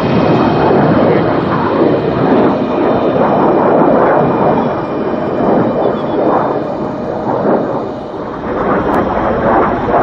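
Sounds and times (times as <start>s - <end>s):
jet fighter engine roaring overhead: 0.0s - 10.0s.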